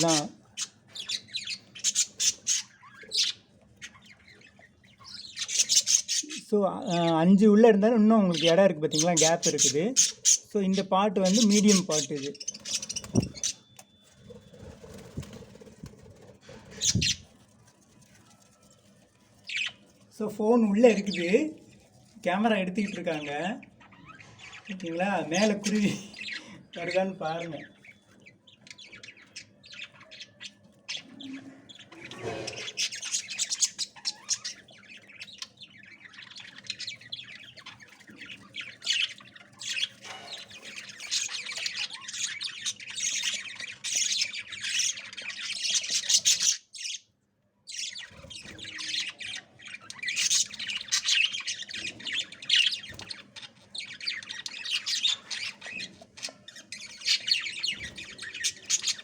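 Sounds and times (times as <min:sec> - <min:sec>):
budgies chirping and squawking: 0:00.0 - 0:59.0.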